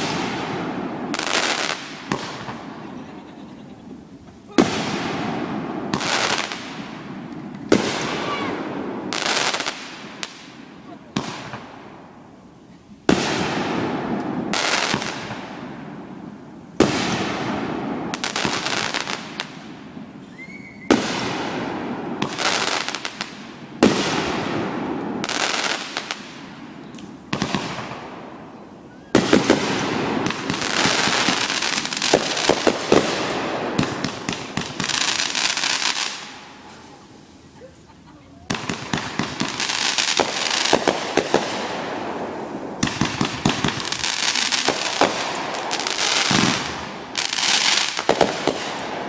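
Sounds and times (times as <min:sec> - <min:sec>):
fireworks bangs with crackling: 0:00.0 - 0:49.0.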